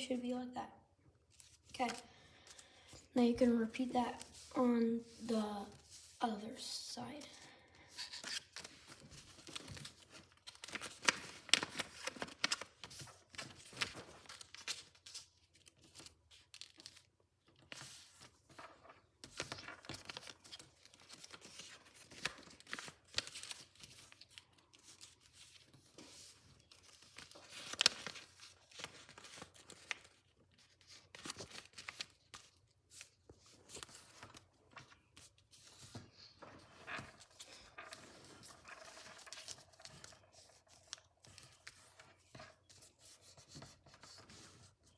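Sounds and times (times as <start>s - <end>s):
paper being folded and creased: 1.3s - 2.7s, 3.6s - 6.4s, 7.4s - 44.9s.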